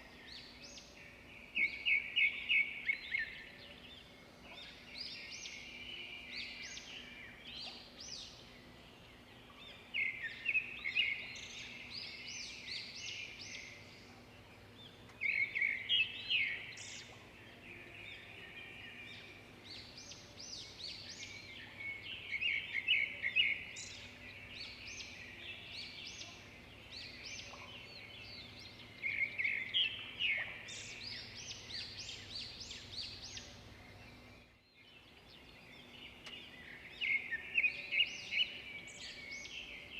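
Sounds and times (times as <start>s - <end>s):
songbirds chirping: 0.0s - 39.9s
faint low hum: 3.3s - 39.9s.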